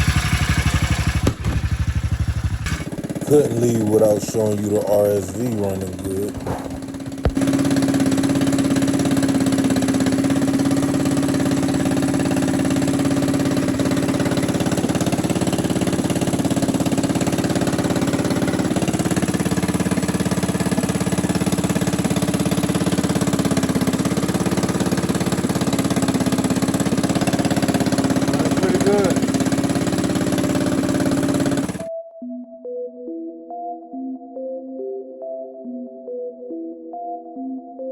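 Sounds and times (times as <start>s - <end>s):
small engine running steadily: 0.0s - 31.9s.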